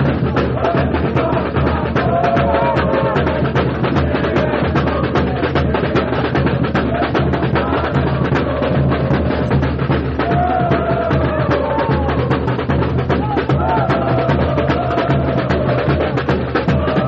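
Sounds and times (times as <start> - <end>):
booming bass drums: 0.0 - 17.0.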